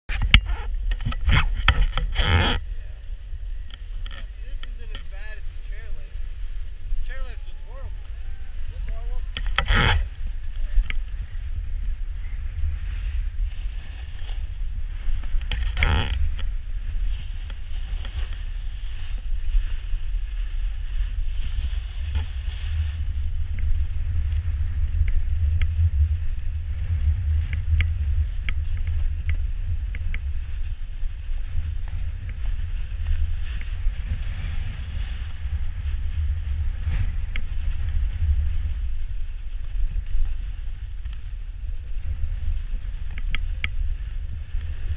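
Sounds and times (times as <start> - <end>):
wind rumbling on microphone: 0.0 - 44.9
snowboard sliding over snow: 0.5 - 44.9.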